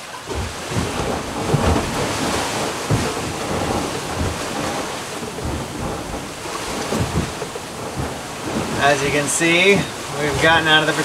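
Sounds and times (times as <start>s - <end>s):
sea water rushing: 0.0s - 11.0s
wind buffeting microphone: 0.0s - 11.0s.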